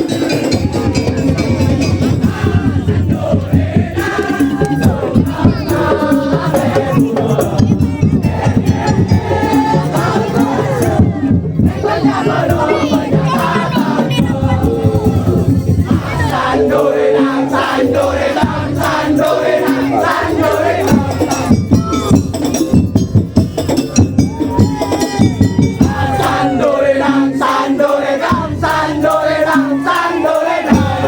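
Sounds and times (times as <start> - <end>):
crowd voices: 0.0 - 31.0
drums and percussion: 0.0 - 31.0.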